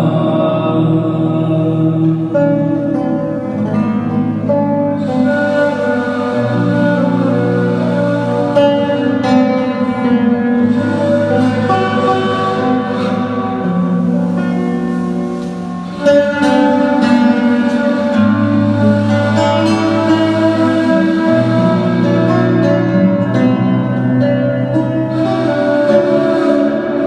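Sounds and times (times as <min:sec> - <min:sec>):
slow plucked string music: 0:00.0 - 0:27.0.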